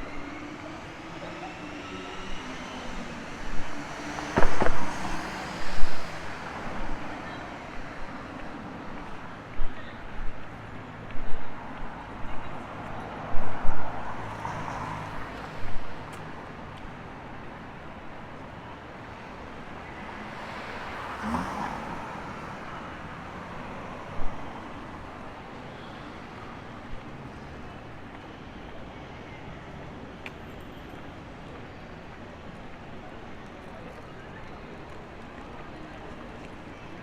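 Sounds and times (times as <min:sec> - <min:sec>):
hum of road traffic: 0:00.0 - 0:37.0.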